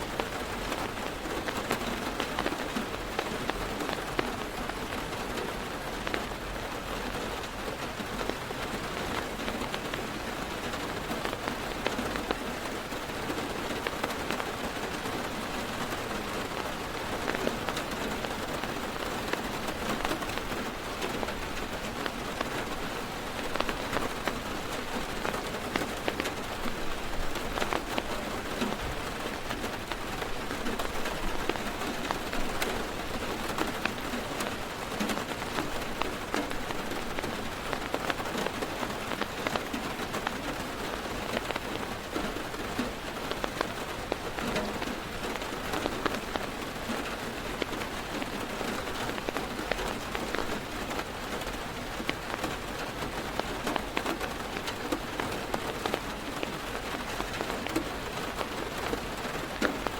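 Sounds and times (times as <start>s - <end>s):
heavy rain on car roof: 0.0s - 59.9s.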